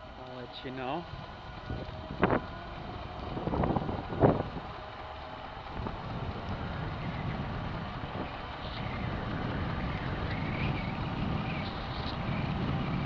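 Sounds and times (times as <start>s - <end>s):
electric scooter motor hum: 0.0s - 13.0s
tyre noise on asphalt: 0.0s - 13.0s
wind on microphone: 0.9s - 13.0s.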